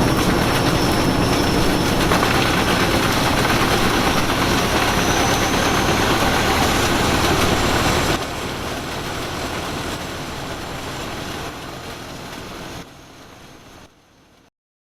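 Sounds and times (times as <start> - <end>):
diesel engine running: 0.0 - 13.5.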